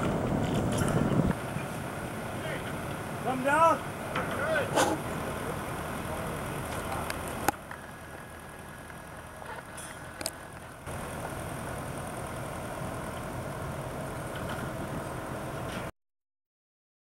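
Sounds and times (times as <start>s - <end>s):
machinery humming: 0.0s - 15.9s.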